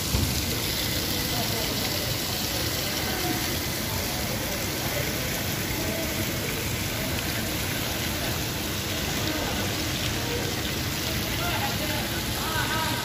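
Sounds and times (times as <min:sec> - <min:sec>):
faint voices: 0:00.3 - 0:13.0.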